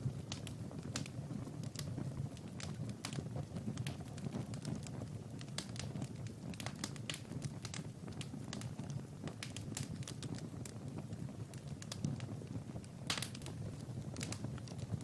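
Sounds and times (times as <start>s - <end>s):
fire pops and snaps: 0.0s - 15.0s
low rumble of fire: 0.0s - 15.0s.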